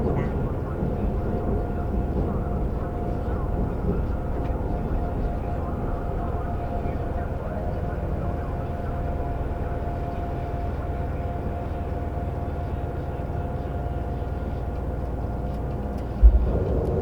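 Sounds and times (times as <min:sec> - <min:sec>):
constant whine: 0:00.0 - 0:17.0
subway train rumble: 0:00.0 - 0:17.0.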